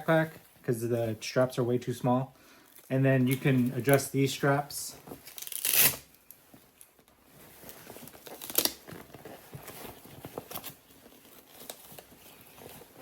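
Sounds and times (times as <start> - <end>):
straps rustling on vinyl: 0.0 - 13.0.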